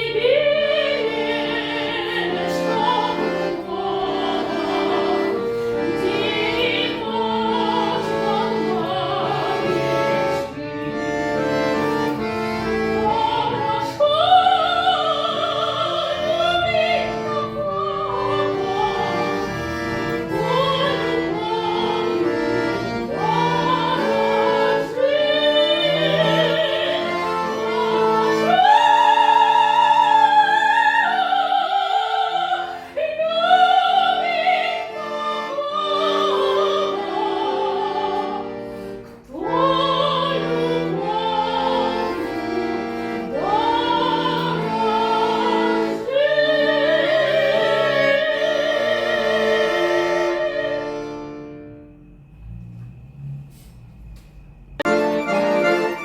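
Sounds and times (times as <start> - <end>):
high classical singing voice: 0.0 - 51.6
instrumental accompaniment: 0.0 - 56.0.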